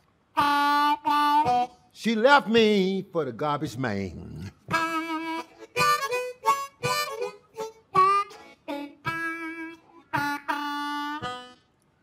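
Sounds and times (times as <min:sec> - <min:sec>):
blues harmonica notes: 0:00.0 - 0:12.0.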